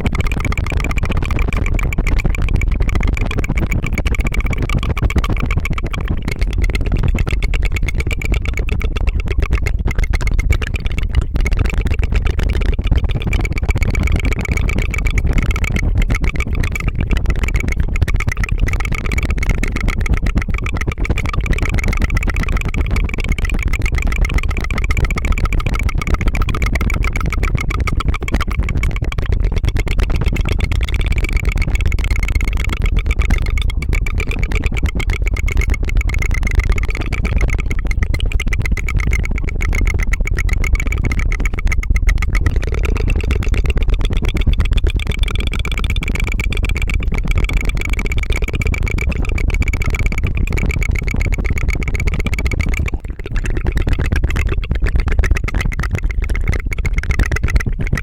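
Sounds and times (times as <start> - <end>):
tongue trill purring buzz: 0.0 - 58.0.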